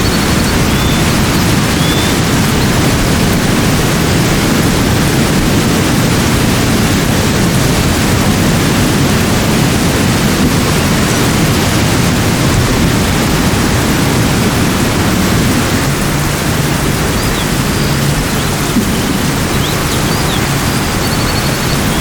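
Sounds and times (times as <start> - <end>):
rush of running water: 0.0 - 22.0.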